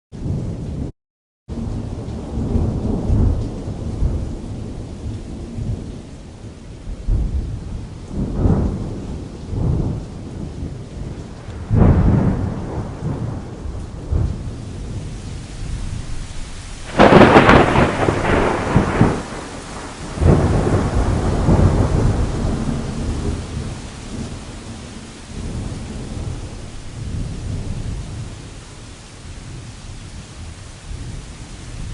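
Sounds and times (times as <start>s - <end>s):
rain falling on canvas: 1.5s - 31.9s
thunder rumbling: 1.5s - 31.9s.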